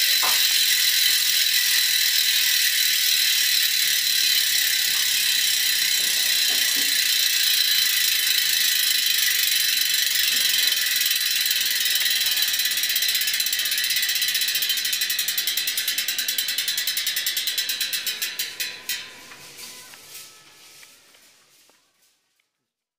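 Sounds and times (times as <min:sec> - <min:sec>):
freehub clicking: 0:00.0 - 0:20.1.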